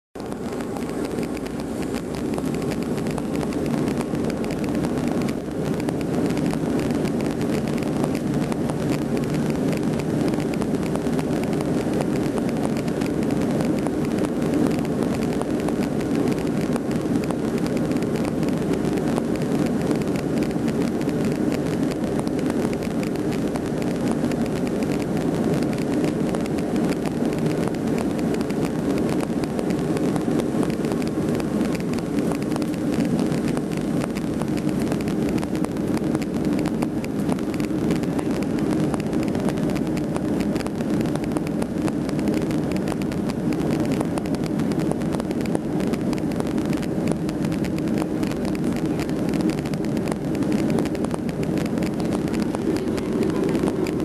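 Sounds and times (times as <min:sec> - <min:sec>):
jet engines roaring in cabin: 0:00.2 - 0:54.0.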